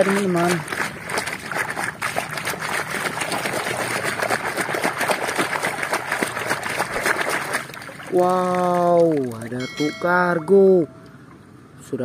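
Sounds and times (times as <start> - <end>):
water splashing and sloshing: 0.0 - 11.8.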